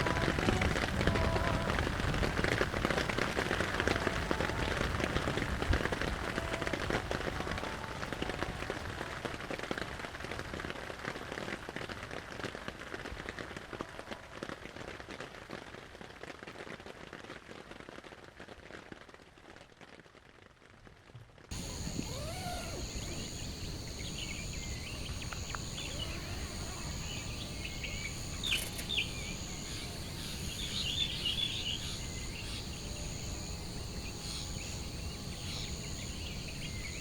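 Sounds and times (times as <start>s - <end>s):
heavy rain falling: 0.0s - 20.1s, 21.5s - 37.0s.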